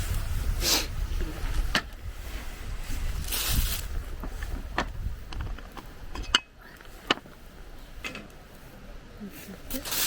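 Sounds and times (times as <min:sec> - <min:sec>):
wind rumbling on microphone: 0:00.0 - 0:09.7.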